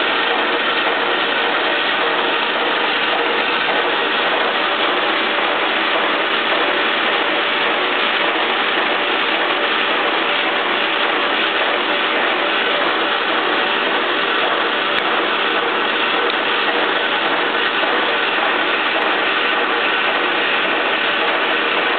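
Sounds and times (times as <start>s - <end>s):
lathe running: 0.0s - 21.9s.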